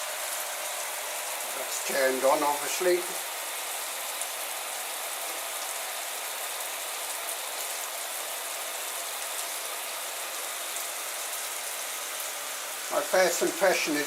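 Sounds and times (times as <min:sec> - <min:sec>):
shower spray hissing: 0:00.0 - 0:14.0.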